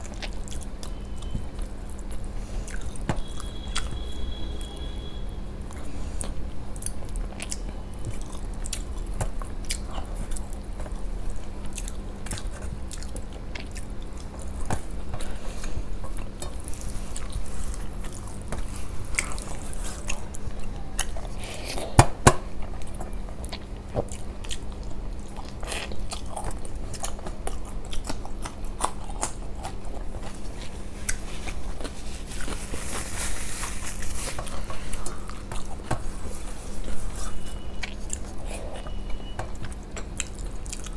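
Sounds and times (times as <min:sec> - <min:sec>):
chewing and mouth sounds: 0:00.0 - 0:40.9
faint steady hum: 0:00.0 - 0:40.9.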